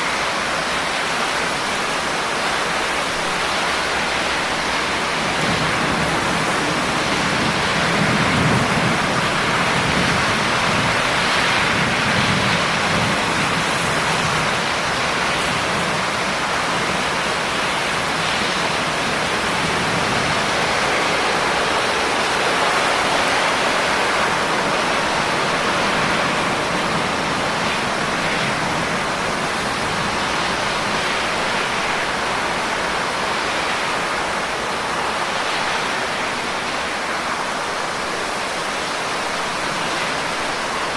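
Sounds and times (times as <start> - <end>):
dense rain hissing: 0.0 - 40.9.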